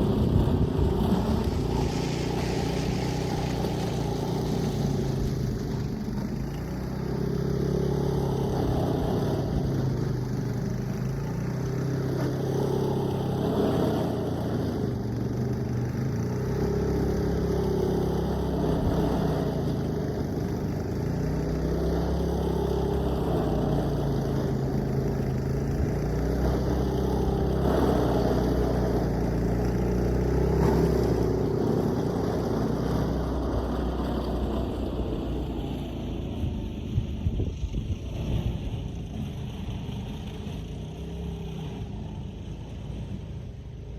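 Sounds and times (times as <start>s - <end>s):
engine running: 0.0s - 43.9s.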